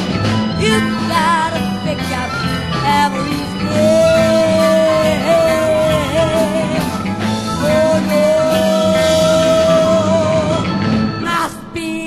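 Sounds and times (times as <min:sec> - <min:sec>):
long high lead notes: 0:00.0 - 0:11.3
psychedelic progressive rock music: 0:00.0 - 0:11.8
bass line: 0:00.0 - 0:12.0.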